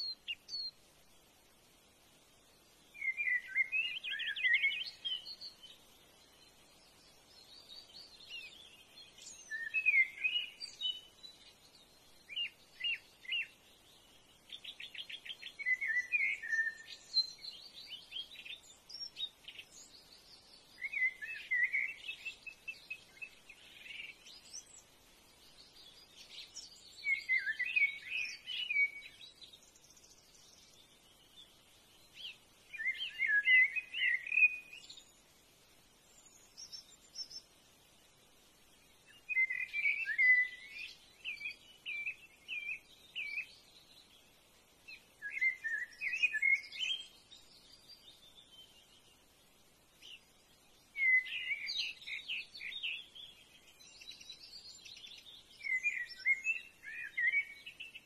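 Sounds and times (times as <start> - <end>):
birds chirping and singing: 3.0 - 5.8, 6.7 - 35.2, 38.8 - 44.2, 44.9 - 49.2, 50.0 - 58.0.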